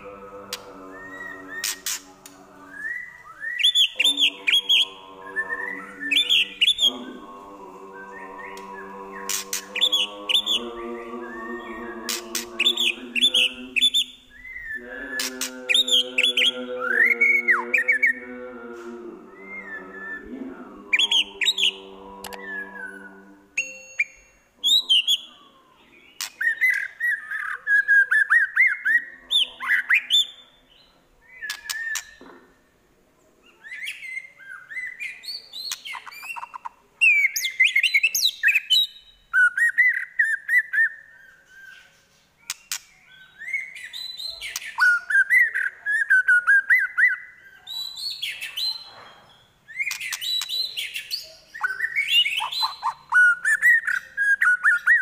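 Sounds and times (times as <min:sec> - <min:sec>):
bird singing trills and whistles: 0:00.8 - 0:07.3, 0:08.0 - 0:18.2, 0:23.6 - 0:32.3, 0:33.4 - 0:55.0.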